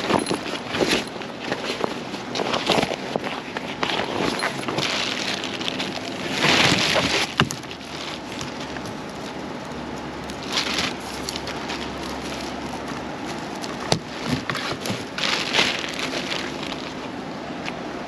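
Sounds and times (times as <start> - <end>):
wicker case being handled: 0.0 - 17.2
plastic bag rustling: 0.0 - 17.4.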